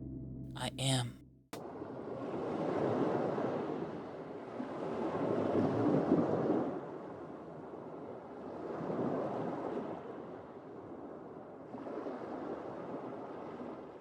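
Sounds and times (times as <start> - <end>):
ocean waves washing in: 1.6 - 14.0.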